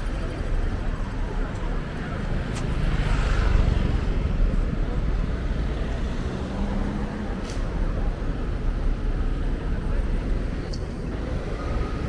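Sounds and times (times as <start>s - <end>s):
vehicles passing rumble: 0.0s - 12.0s.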